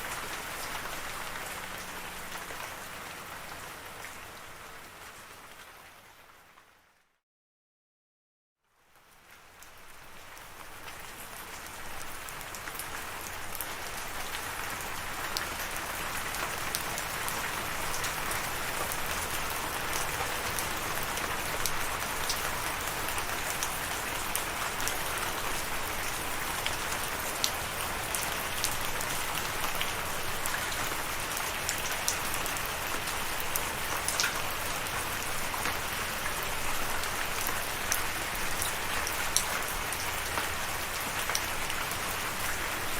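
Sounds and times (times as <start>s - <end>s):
steady rain falling: 0.0s - 7.0s, 8.7s - 42.9s.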